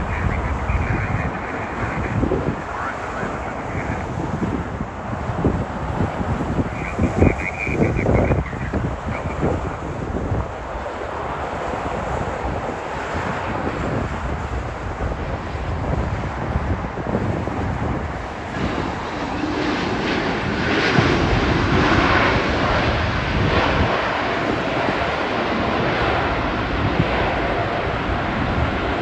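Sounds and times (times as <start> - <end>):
jet engines rushing: 0.0 - 29.0
wind buffeting microphone: 0.0 - 29.0.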